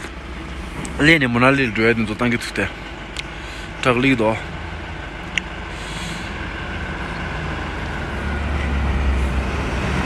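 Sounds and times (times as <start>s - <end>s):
truck engine rumble: 0.0s - 10.0s.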